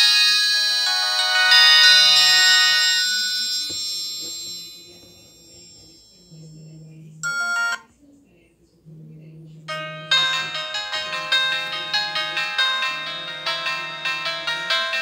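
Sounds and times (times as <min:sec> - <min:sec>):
mobile phone ringtone: 0:00.0 - 0:07.8, 0:09.7 - 0:15.0.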